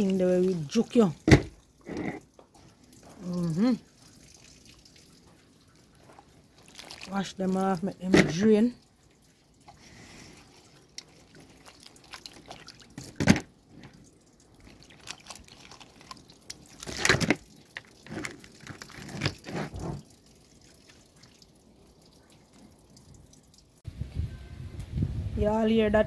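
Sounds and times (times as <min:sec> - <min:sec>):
water dripping and splashing: 0:00.0 - 0:23.8.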